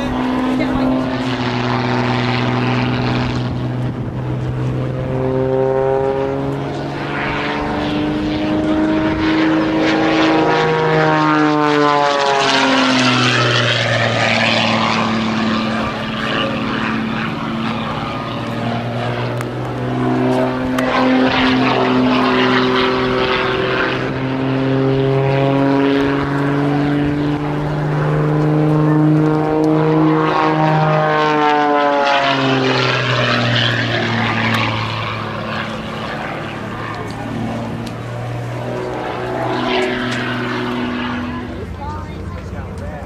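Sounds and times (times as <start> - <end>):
propeller airplane flying past: 0.0 - 43.0.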